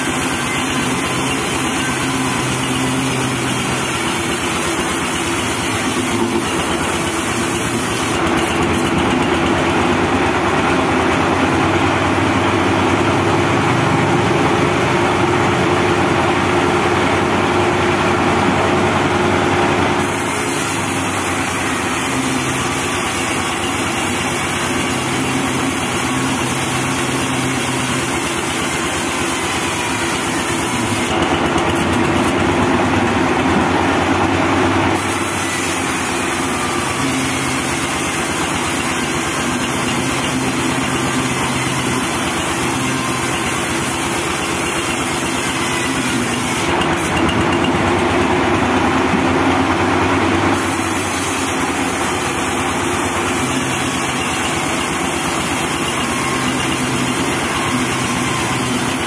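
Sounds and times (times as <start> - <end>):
band sawmill cutting log: 0.0 - 59.0.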